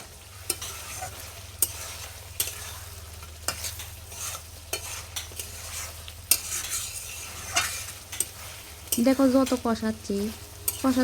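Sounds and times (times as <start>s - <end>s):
chicken sizzling in hot oil: 0.0s - 11.0s
spatula scraping against pan: 0.0s - 11.0s.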